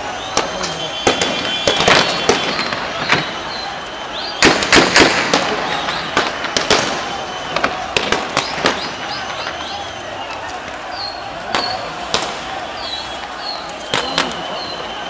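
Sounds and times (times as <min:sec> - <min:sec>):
gunshots: 0:00.2 - 0:09.9, 0:11.4 - 0:15.0.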